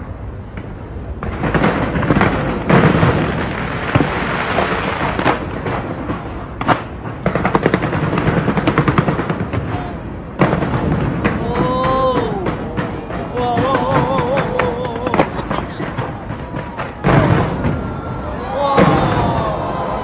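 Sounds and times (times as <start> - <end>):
firework crackle: 0.0 - 20.0
big firework bangs: 0.5 - 20.0
firework shells booming: 0.6 - 20.0.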